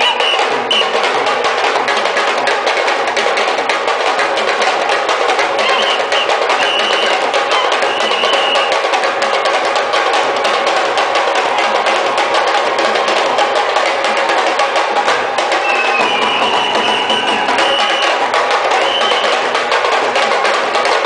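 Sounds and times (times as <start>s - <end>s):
drum ensemble playing fast: 0.0s - 21.0s.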